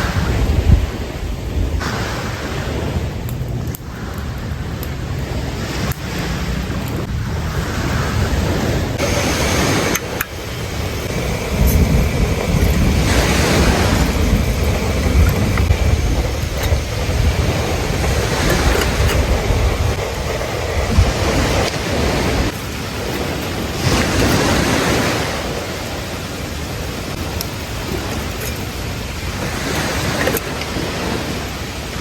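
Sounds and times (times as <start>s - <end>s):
waves washing onto beach: 0.0s - 32.0s
wind buffeting microphone: 0.0s - 32.0s.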